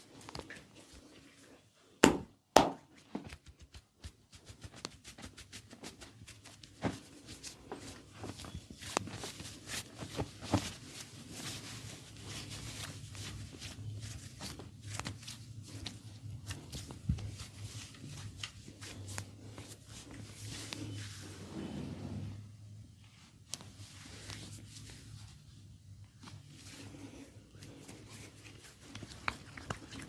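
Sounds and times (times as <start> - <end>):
hands rubbing and slapping skin: 0.0 - 1.5, 2.6 - 21.3, 23.5 - 25.5, 26.1 - 30.0.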